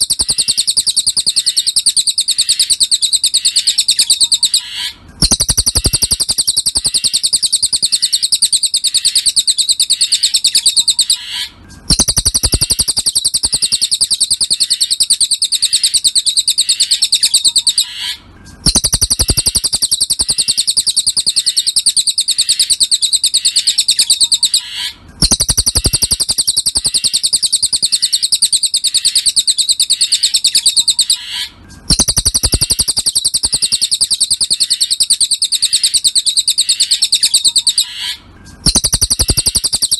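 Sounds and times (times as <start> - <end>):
bird high-pitched trill: 0.0 - 39.9.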